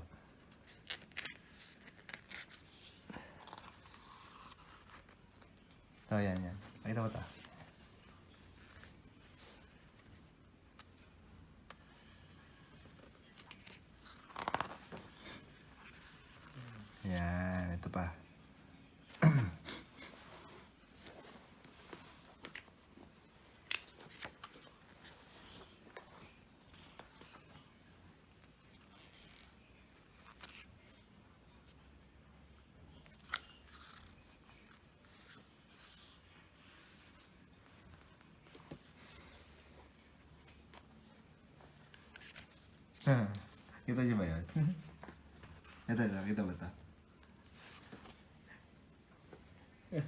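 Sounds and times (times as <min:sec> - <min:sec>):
paper rustling: 0:00.2 - 0:11.1, 0:11.7 - 0:17.8, 0:20.0 - 0:31.1, 0:32.8 - 0:49.8.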